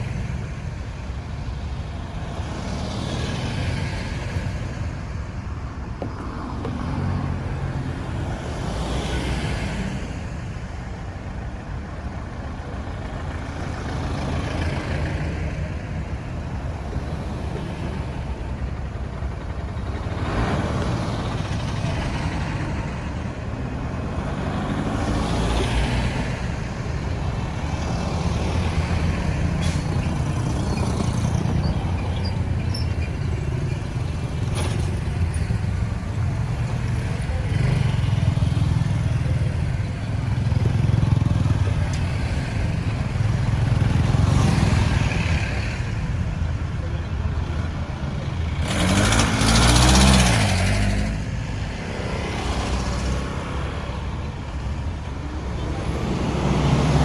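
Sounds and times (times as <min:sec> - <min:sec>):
road traffic rumble: 0:00.0 - 0:57.0
vehicles passing by: 0:00.0 - 0:57.0.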